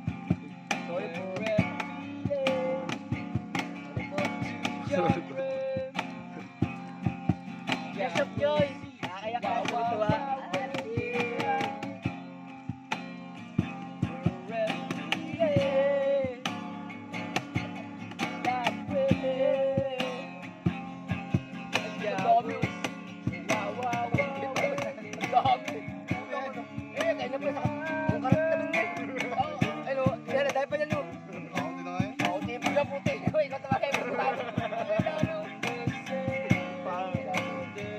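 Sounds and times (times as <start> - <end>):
person singing: 0.0 - 12.7, 13.5 - 37.9
strummed acoustic guitar: 0.0 - 37.9.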